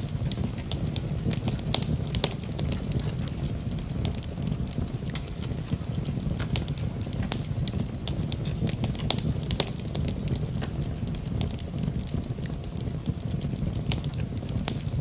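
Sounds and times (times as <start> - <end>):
burning wood popping: 0.0 - 15.0
wood fire crackling: 0.0 - 15.0.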